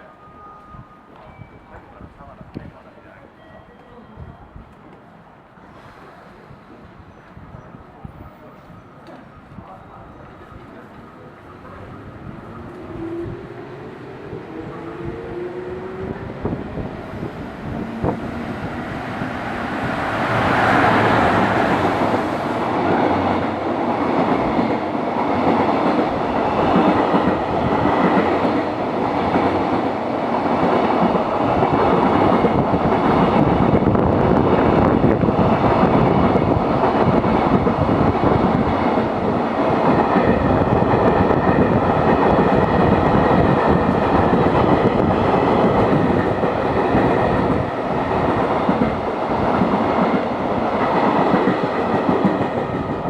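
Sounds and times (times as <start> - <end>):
train running on rails: 0.0 - 53.0.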